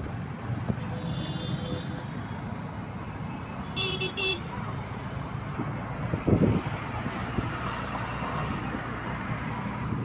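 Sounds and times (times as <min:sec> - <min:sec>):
road traffic engines and tyres: 0:00.0 - 0:10.0.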